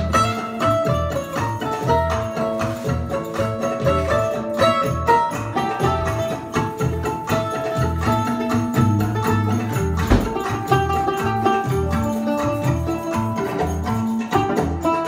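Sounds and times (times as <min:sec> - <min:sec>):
violin melody: 0:00.0 - 0:13.6
bass: 0:00.0 - 0:15.0
hand drum beating: 0:00.0 - 0:15.0
mandolin: 0:00.0 - 0:15.0.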